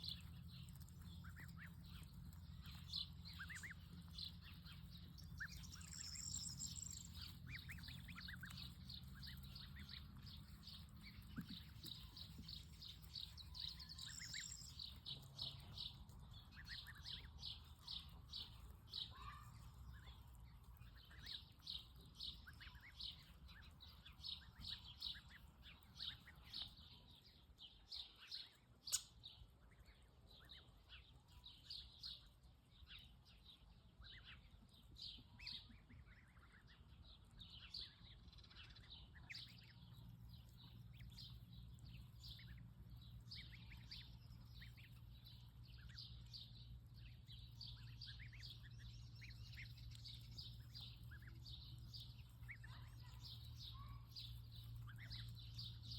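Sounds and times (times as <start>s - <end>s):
birds chirping: 0.0s - 55.9s
low steady hum: 0.0s - 55.9s.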